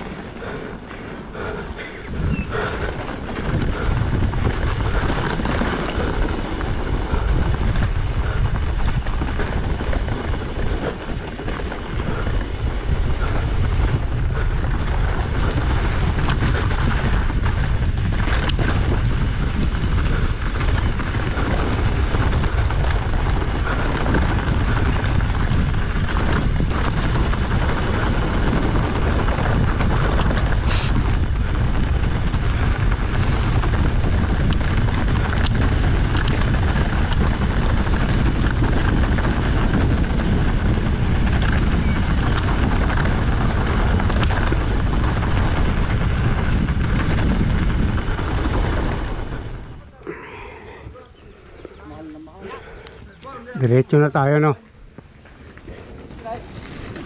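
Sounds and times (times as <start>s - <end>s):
tyres rolling on gravel trail: 0.0s - 57.0s
wind buffeting microphone: 0.0s - 57.0s.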